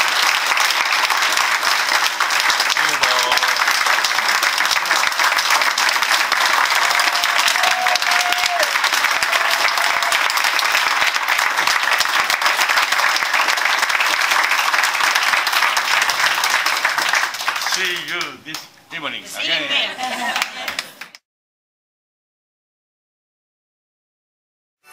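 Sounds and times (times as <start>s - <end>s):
audience applauding: 0.0s - 18.7s, 19.3s - 21.2s.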